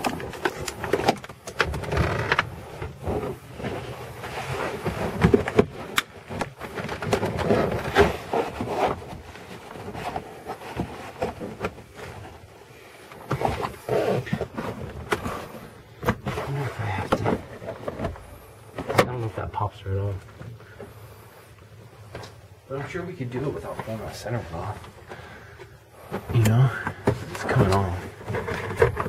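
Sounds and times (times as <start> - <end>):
hands and tools on plastic trim: 0.0 - 19.3, 23.6 - 29.0.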